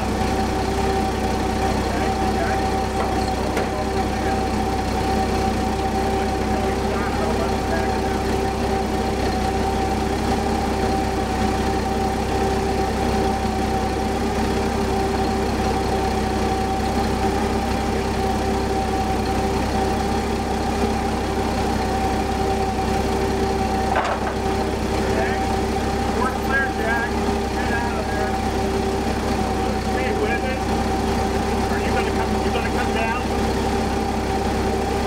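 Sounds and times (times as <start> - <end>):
forklift engines idling: 0.0 - 35.0.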